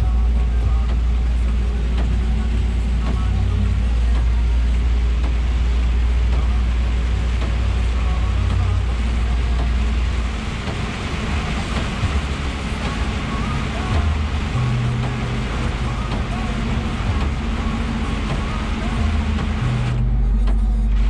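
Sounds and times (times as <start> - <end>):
diesel engine low drone: 0.0 - 21.0
rain: 0.0 - 21.0
tyres hissing on wet road: 0.0 - 21.0.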